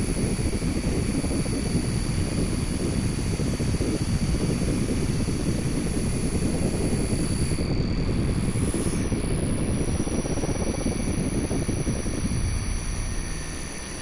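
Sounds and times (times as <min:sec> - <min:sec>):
low rumbling electronic drone: 0:00.0 - 0:14.0
thin high whine: 0:00.0 - 0:14.0.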